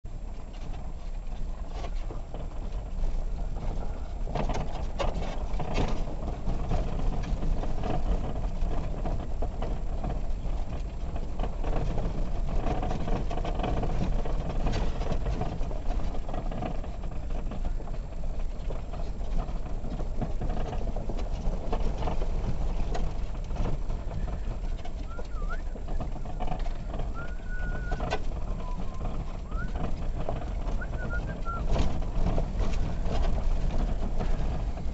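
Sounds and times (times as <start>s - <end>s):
van engine rumble: 0.0s - 34.9s
knocks and rattles from bumpy track: 0.1s - 34.9s.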